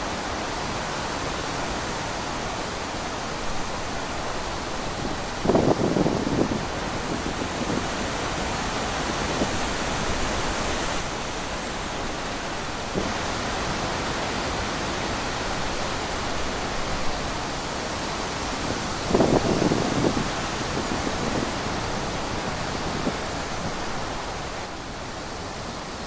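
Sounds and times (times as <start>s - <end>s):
steady wind: 0.0s - 26.0s.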